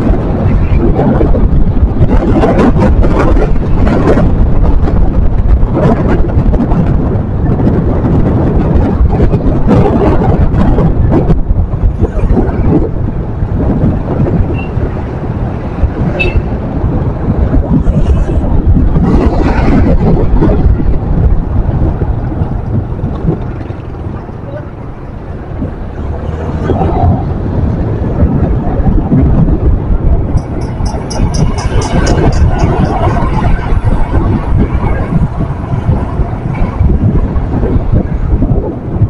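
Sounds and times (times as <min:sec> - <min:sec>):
motorcycle engine and road noise: 0:00.0 - 0:39.0
wind on microphone: 0:00.0 - 0:39.0.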